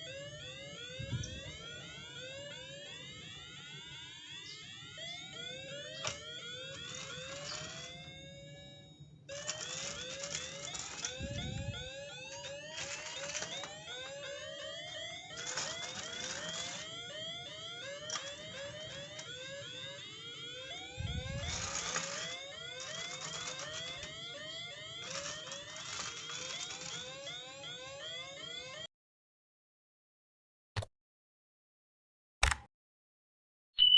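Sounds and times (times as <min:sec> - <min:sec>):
warbling electronic toy alarm: 0:00.0 - 0:28.9.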